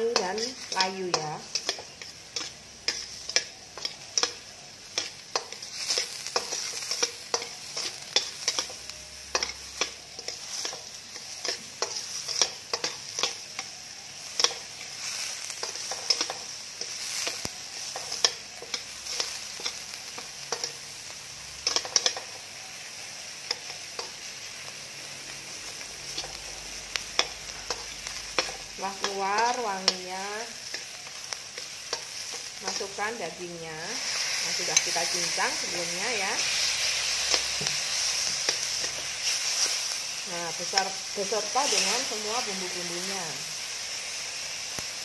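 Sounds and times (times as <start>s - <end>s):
onion and garlic sizzling in oil: 0.0s - 45.0s.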